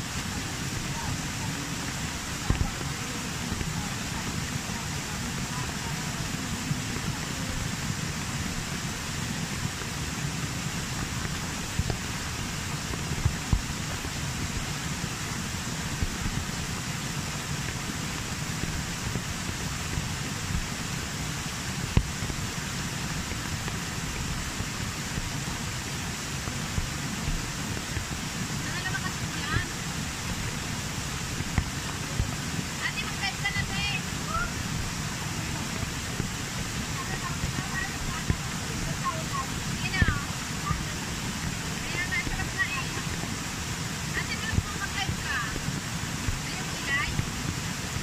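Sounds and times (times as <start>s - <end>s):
rain: 0.0s - 48.0s
waterfall rushing: 0.0s - 48.0s.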